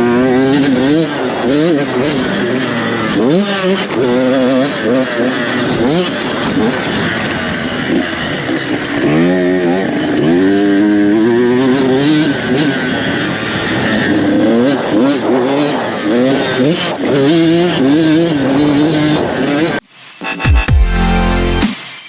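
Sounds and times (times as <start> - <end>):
dirt bike engines revving: 0.0 - 19.8.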